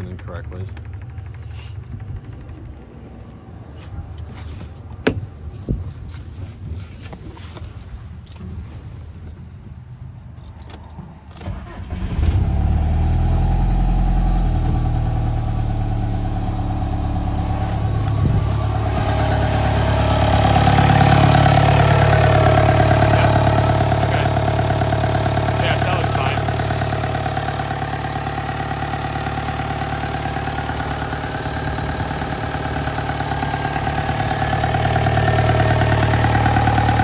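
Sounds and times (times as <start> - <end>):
diesel engine starting and idling: 0.0 - 3.7, 10.6 - 37.0.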